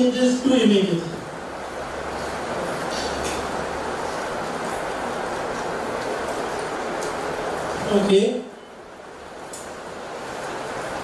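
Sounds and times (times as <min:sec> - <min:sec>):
street traffic over loudspeakers: 0:00.0 - 0:11.0.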